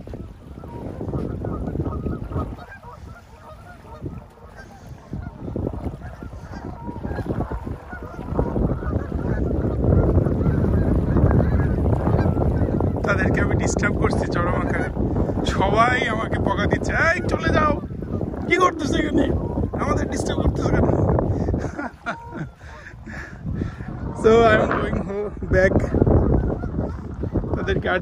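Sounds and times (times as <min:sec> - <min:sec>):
geese honking: 0:00.0 - 0:28.0
wind buffeting microphone: 0:00.0 - 0:28.0.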